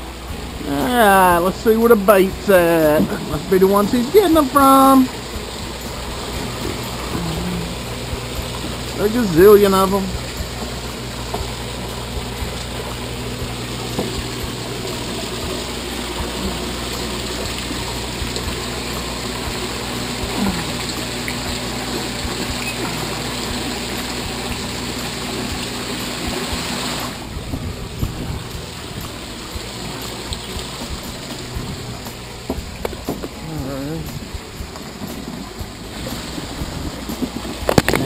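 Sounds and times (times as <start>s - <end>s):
water splashing into tank: 1.6s - 38.0s.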